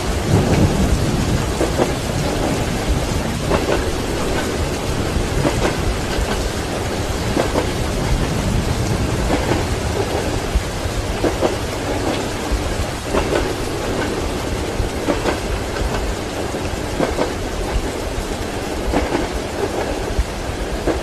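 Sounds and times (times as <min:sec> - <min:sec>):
rain hiss: 0:00.0 - 0:21.0
train wheels clacking: 0:00.0 - 0:21.0.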